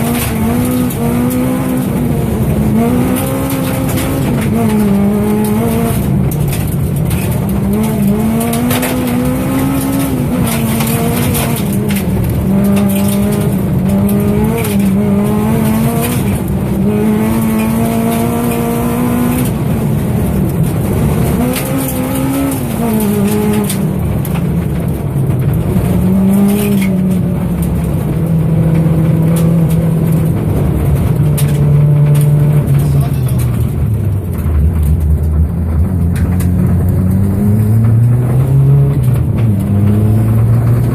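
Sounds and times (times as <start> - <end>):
gravel noise: 0.0 - 40.9
rally car engine revving: 0.0 - 40.9.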